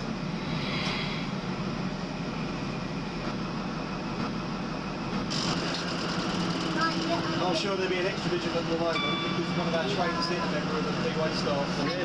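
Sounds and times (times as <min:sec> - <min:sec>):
train wheels on rail: 0:00.0 - 0:11.9
train diesel engine running: 0:00.0 - 0:12.0.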